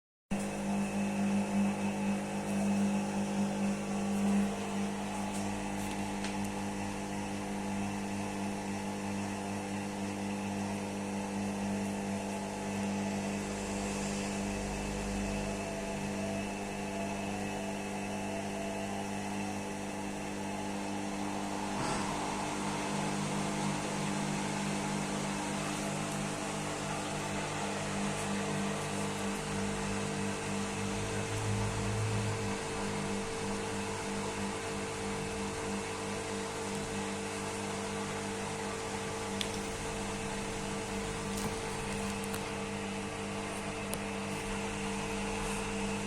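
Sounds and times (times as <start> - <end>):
washing machine spinning: 0.4 - 46.0.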